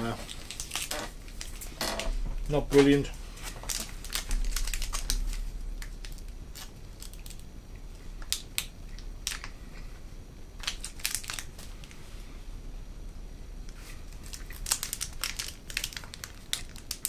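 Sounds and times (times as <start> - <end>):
plastic wrapper crinkling: 0.0 - 9.8, 10.6 - 12.0, 13.8 - 17.0.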